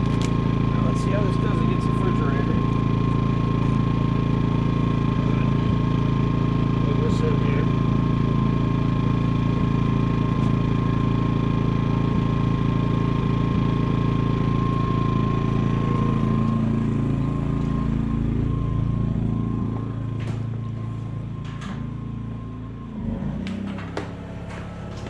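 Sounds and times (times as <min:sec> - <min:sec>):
generator engine humming: 0:00.0 - 0:25.0.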